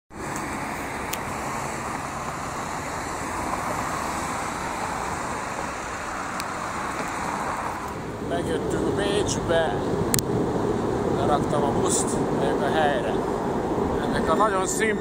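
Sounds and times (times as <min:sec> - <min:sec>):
road traffic: 0:00.1 - 0:15.0.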